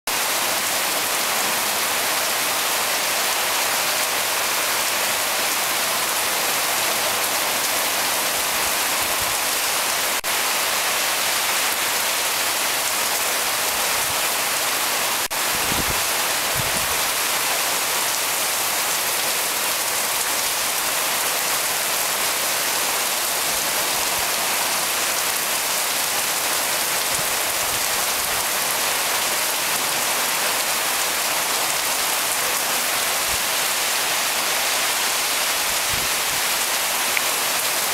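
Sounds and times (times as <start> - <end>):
heavy rain pouring: 0.1 - 37.9.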